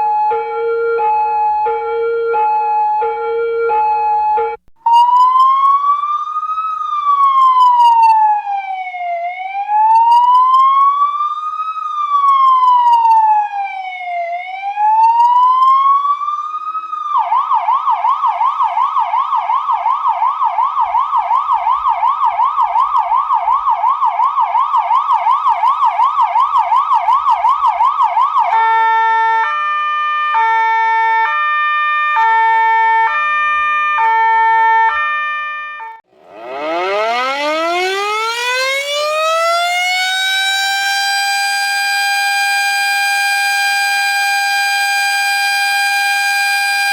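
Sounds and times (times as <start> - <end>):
electronic emergency siren: 0.0 - 46.9.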